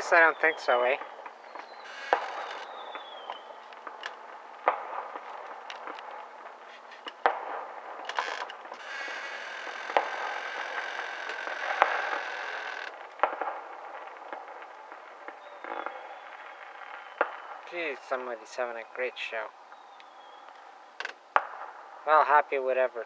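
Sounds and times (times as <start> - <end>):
fireworks bangs and pops: 0.0 - 23.0
fireworks crackling: 0.0 - 23.0.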